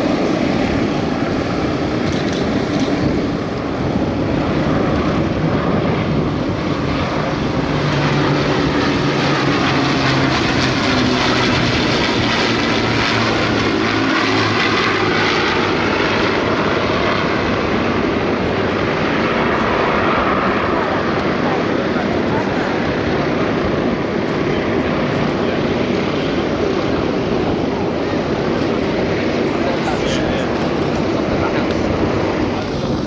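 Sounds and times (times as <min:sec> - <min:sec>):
piston aircraft engines droning: 0:00.0 - 0:33.0.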